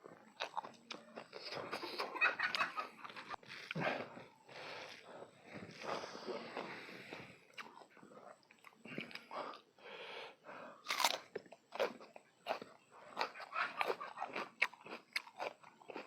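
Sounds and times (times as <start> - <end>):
chewing and crunching food: 0.0 - 16.0.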